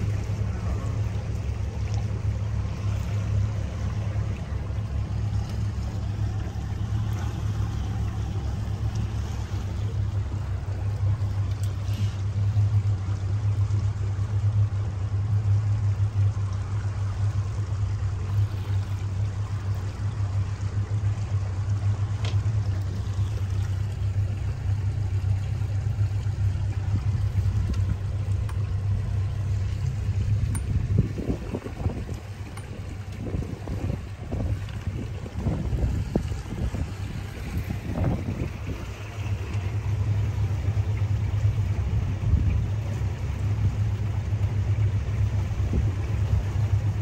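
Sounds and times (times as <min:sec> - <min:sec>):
boat motor droning: 0:00.0 - 0:47.0
water rushing along hull: 0:00.0 - 0:47.0.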